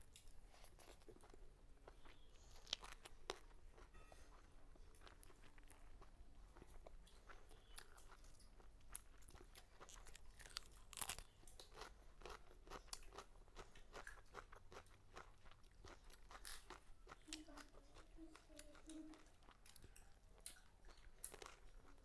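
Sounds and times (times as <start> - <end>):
person chewing and crunching food: 0.0 - 22.0.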